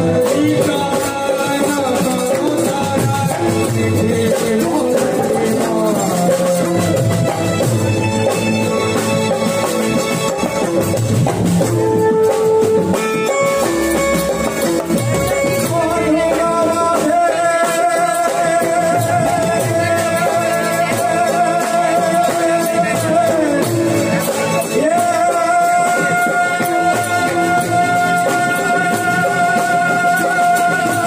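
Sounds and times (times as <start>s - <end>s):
man singing into a microphone: 0.0s - 9.4s, 11.6s - 31.0s
drums with a steady beat: 0.0s - 31.0s
keyboard: 0.0s - 31.0s.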